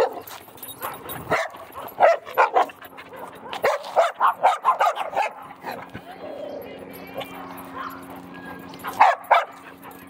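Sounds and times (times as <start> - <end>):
dog barking and yipping: 0.0 - 6.0, 7.2 - 10.0.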